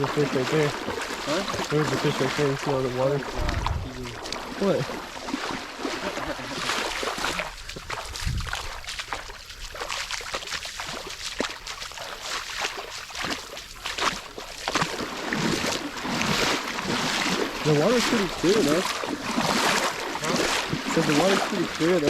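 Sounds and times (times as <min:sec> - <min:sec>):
footsteps sloshing through water: 0:00.0 - 0:22.0
water splashes: 0:00.0 - 0:22.0.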